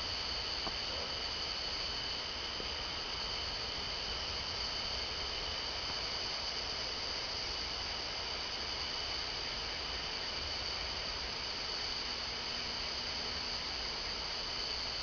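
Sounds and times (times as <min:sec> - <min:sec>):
night insects droning: 0:00.0 - 0:15.0.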